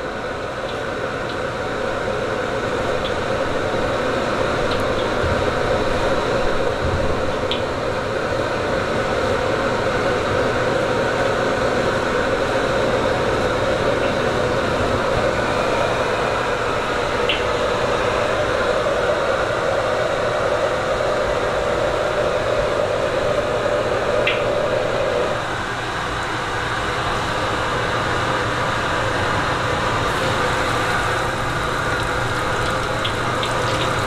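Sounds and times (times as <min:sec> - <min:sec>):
kitchen equipment roaring: 0:00.0 - 0:34.0.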